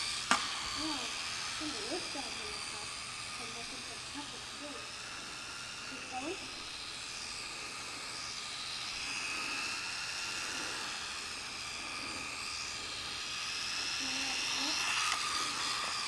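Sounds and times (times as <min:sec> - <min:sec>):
toy truck motor whining: 0:00.0 - 0:16.0.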